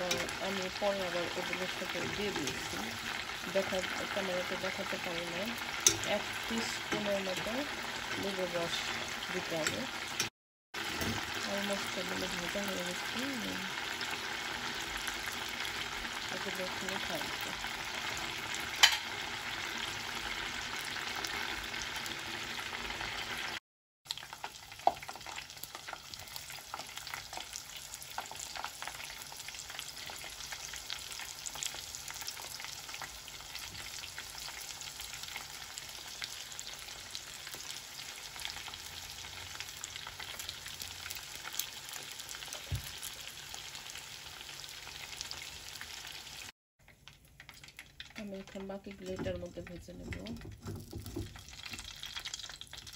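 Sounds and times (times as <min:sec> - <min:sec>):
wings deep-frying in oil: 0:00.0 - 0:52.9.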